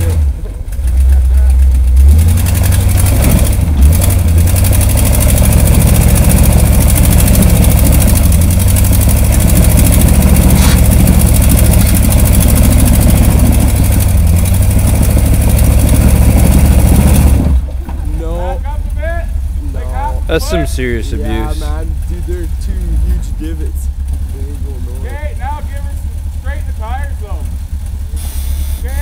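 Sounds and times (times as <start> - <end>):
truck engine working under load: 0.0 - 29.0.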